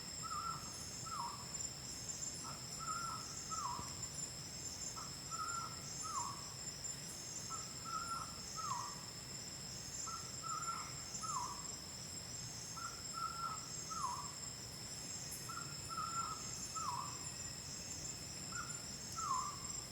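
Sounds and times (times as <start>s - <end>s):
night insects trilling: 0.0s - 19.9s.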